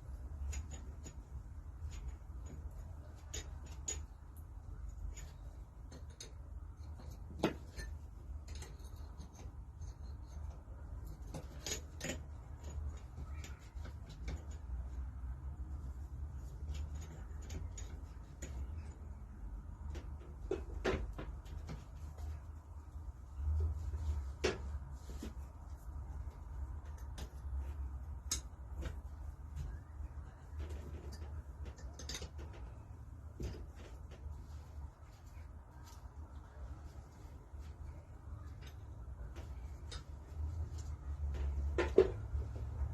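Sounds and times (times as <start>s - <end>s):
low steady hum: 0.0s - 42.9s
clicks of hand tools and metal parts: 0.1s - 22.4s, 26.2s - 34.6s, 38.5s - 42.9s.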